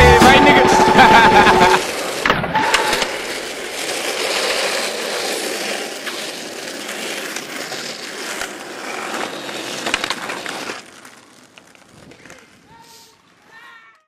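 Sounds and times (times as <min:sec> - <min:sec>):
skateboard wheels on asphalt: 0:00.0 - 0:14.0.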